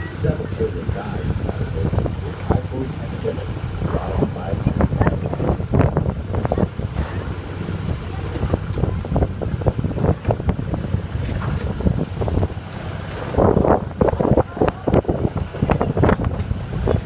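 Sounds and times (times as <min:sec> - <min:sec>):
train car rumbling: 0:00.0 - 0:17.0
wind buffeting the microphone: 0:00.0 - 0:17.0.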